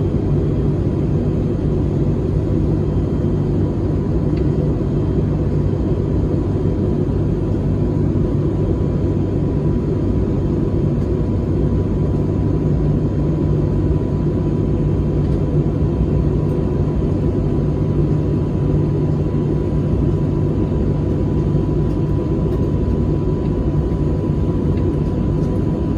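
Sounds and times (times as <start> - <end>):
airplane cabin engine noise: 0.0 - 25.9
low hum: 0.0 - 25.9.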